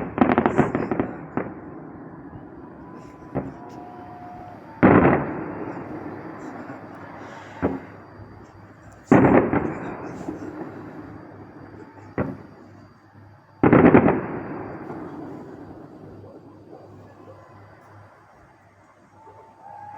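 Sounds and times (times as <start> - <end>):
fireworks exploding: 0.0 - 12.9, 13.6 - 17.3.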